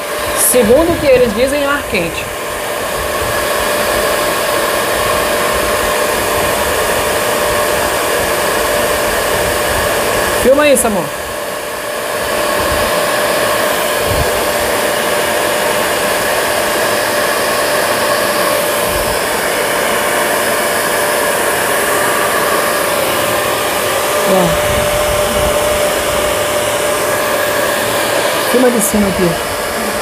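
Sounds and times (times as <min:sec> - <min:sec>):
hair dryer blowing air: 0:00.0 - 0:30.0.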